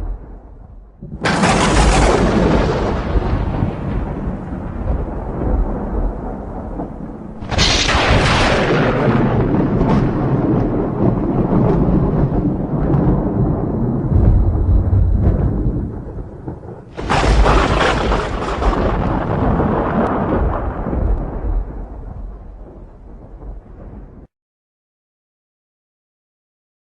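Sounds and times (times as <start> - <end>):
thunderclaps with low rumble: 0.0 - 24.3.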